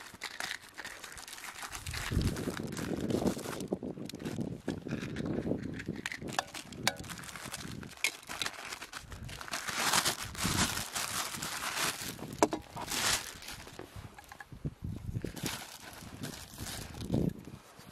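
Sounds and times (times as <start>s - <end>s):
plastic bag rustling: 0.0s - 14.5s, 15.1s - 17.4s.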